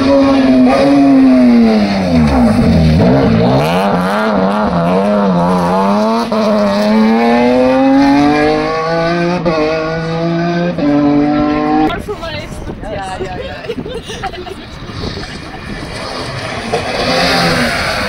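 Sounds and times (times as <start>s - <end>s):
rally car engine passing: 0.0s - 12.8s, 14.7s - 18.0s.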